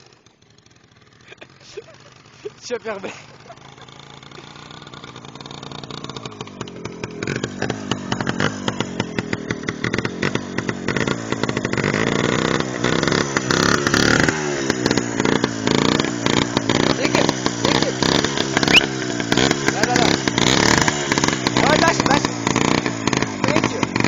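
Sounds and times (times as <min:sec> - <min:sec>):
two-stroke motorcycle engine: 0:00.0 - 0:24.0.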